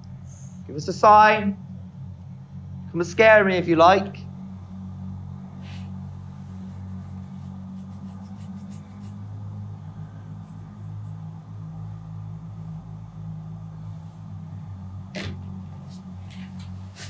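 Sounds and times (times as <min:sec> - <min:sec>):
low droning background music: 0:00.0 - 0:17.0.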